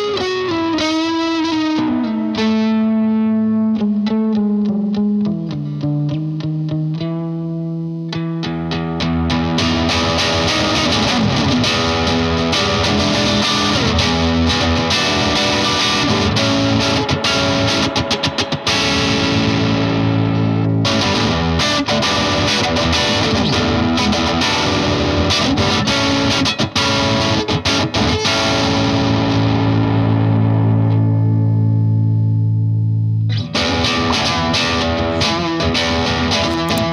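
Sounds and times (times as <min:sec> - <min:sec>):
overdriven electric guitar: 0:00.0 - 0:36.9.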